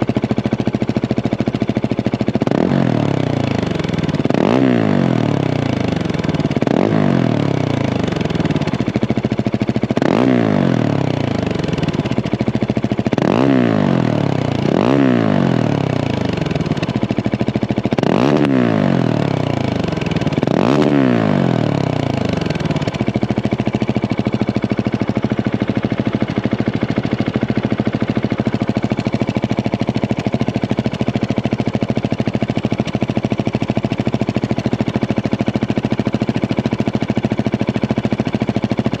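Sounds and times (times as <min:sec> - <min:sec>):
motorcycle engine revving and idling: 0:00.0 - 0:39.0.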